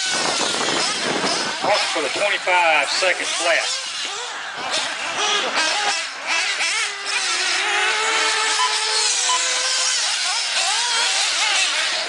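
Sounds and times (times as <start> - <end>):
small nitro engines revving: 0.0 - 12.0.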